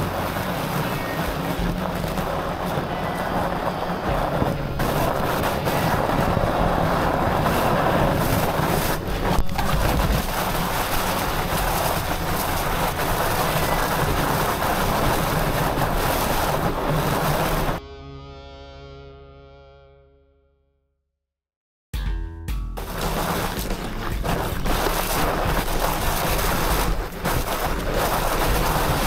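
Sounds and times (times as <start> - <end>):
bike rumbling over snow: 0.0 - 17.8, 22.8 - 29.0
wind noise on microphone: 0.0 - 17.8, 22.8 - 29.0.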